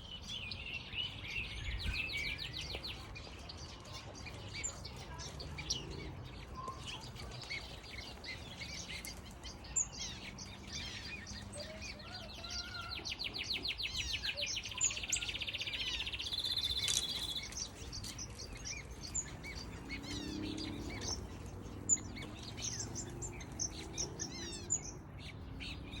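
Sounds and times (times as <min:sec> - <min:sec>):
birds chirping and calling: 0:00.0 - 0:26.0.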